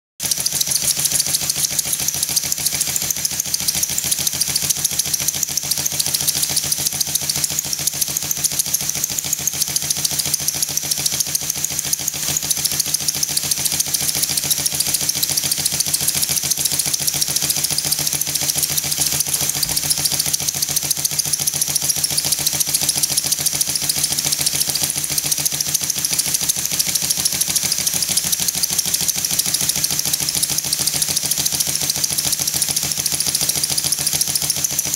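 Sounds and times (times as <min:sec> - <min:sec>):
model engine exhaust beat: 0:00.2 - 0:34.9.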